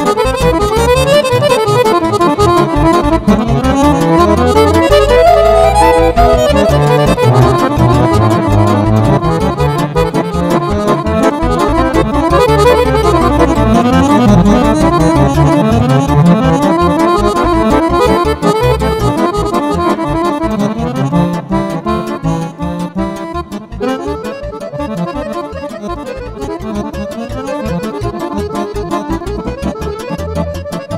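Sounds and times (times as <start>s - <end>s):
accordion fast runs: 0.0s - 30.9s
keyboard accompaniment: 0.0s - 30.9s.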